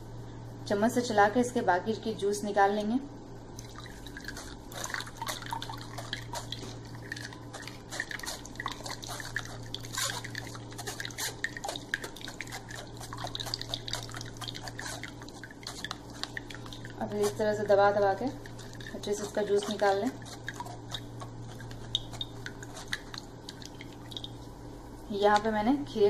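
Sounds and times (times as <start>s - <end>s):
steady low hum: 0.0s - 26.0s
juice dripping into a bowl: 3.5s - 24.7s.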